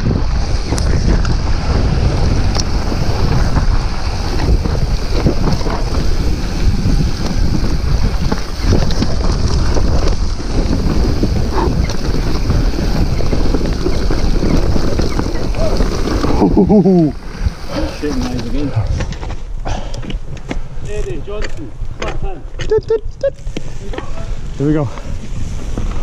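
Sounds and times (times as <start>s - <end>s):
bike knocking and rattling: 0.0s - 22.8s, 25.0s - 26.0s
bike tyres rolling on dirt: 0.0s - 26.0s
wind buffeting microphone: 0.0s - 26.0s.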